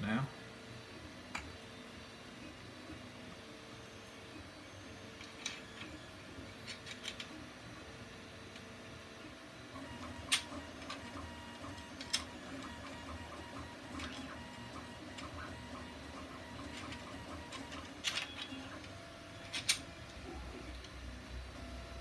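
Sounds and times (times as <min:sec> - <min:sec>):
printer humming and ticking: 0:00.6 - 0:22.0.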